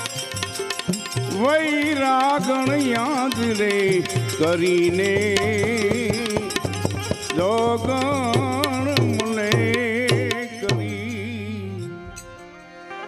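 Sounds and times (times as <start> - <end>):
drum and hand percussion: 0.0 - 12.6
harmonium chords: 0.0 - 13.0
wavering melody: 0.0 - 13.0.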